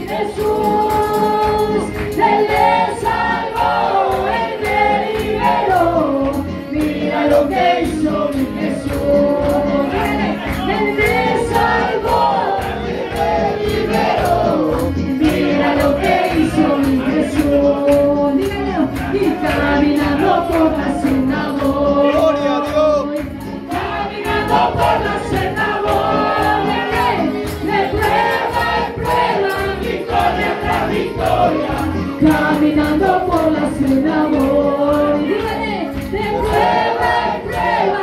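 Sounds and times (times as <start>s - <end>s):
amplified band music: 0.0s - 37.9s
congregation singing: 0.0s - 38.0s.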